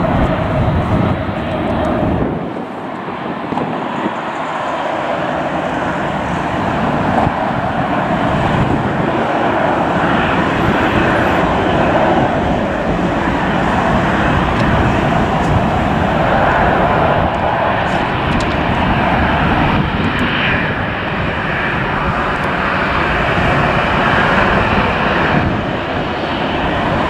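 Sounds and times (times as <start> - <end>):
jet engines rushing: 0.0 - 27.0.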